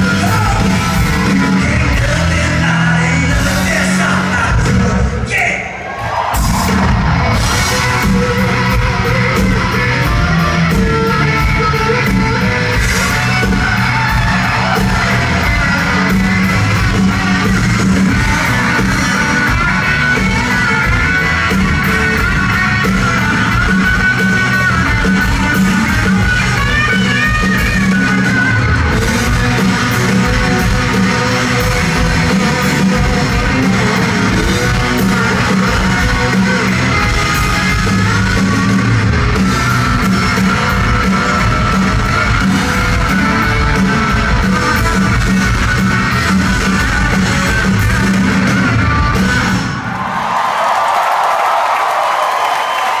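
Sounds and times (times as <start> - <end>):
country rock band playing live: 0.0 - 50.4.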